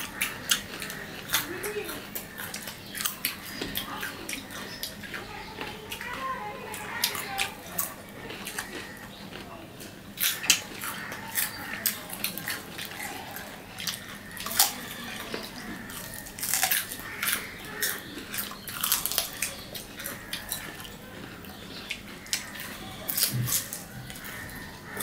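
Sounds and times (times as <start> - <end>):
crunchy fruit chewing: 0.0 - 25.0.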